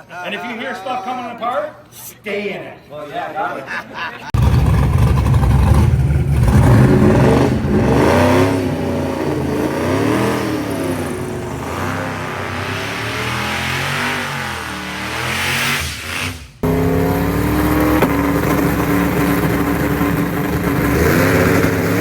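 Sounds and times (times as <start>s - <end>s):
drag car engine revving: 4.4s - 22.0s.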